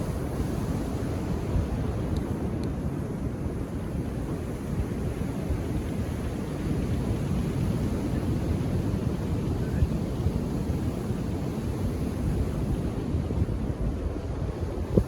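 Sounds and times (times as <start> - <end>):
ocean waves on beach: 0.0 - 15.0.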